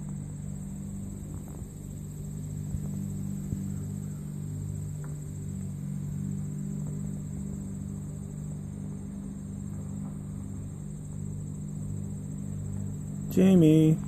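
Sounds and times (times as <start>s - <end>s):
high insect trill: 0.0s - 14.0s
steady low hum: 0.0s - 14.0s.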